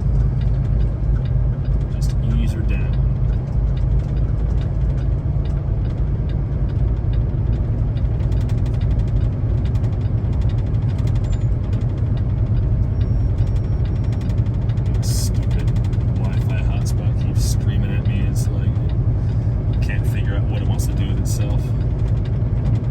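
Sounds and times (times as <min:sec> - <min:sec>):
truck diesel engine running: 0:00.0 - 0:22.9.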